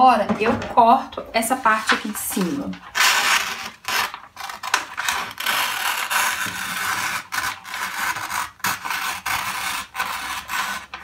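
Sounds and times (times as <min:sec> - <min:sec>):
scissors cutting paper: 0:01.7 - 0:11.0.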